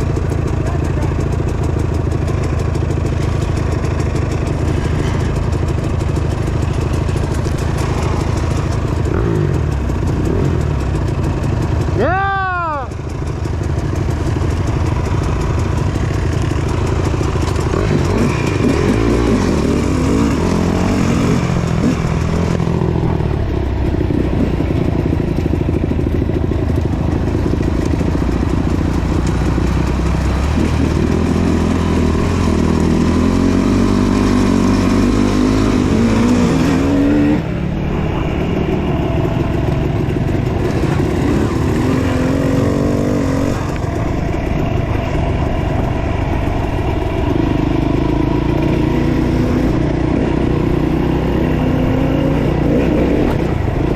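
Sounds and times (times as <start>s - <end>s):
dirt bike engine: 0.0s - 53.9s.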